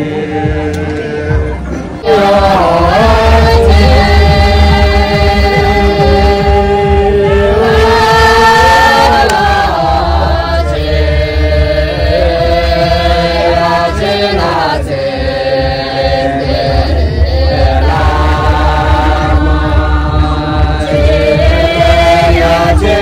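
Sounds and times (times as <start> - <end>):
group chanting in unison: 0.0 - 23.0.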